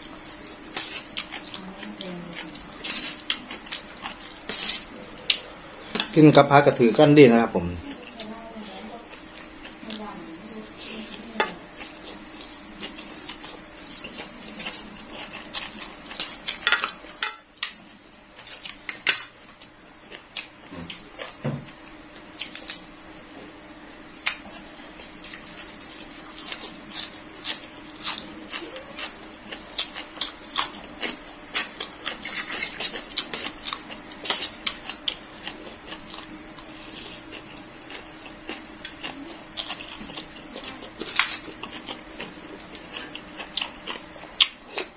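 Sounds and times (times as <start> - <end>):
crickets chirring: 0.0 - 44.9.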